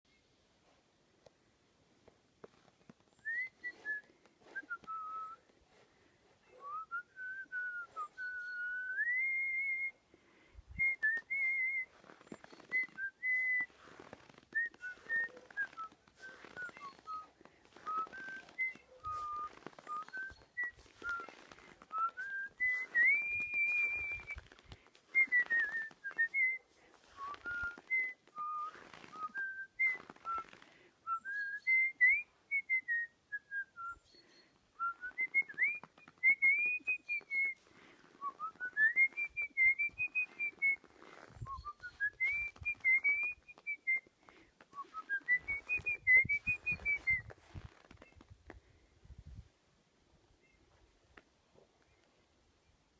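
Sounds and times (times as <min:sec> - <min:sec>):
person whistling a melody: 0:03.2 - 0:05.4, 0:06.5 - 0:10.0, 0:10.7 - 0:48.2.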